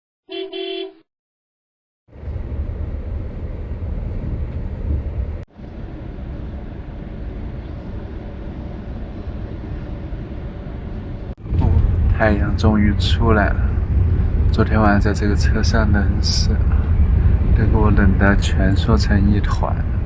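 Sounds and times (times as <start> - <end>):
low noisy rumble: 2.1 - 20.0.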